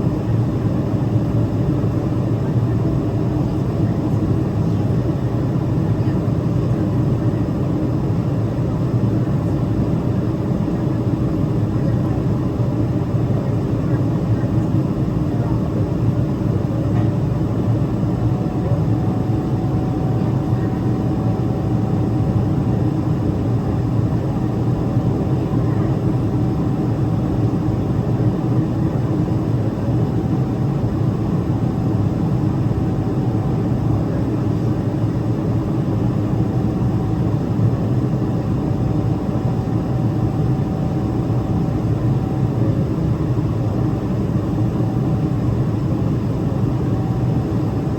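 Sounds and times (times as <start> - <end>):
jet engine cabin roar: 0.0 - 47.9.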